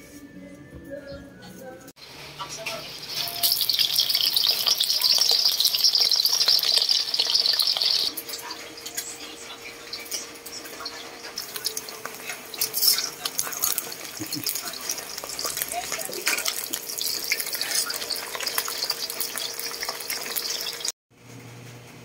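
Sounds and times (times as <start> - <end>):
fish frying in hot oil: 2.0 - 8.6, 9.7 - 21.0.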